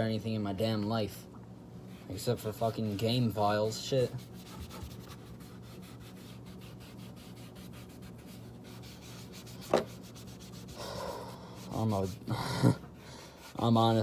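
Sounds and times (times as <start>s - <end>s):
rubbing and scrubbing on speaker casing: 1.9s - 14.0s.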